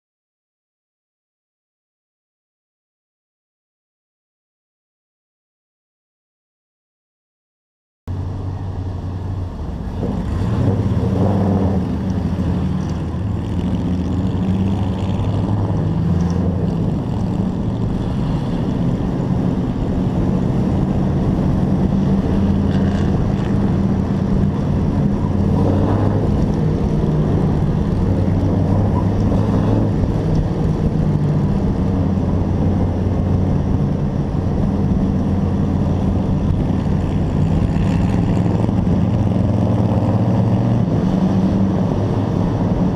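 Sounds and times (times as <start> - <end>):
race truck engine running: 8.1 - 42.9.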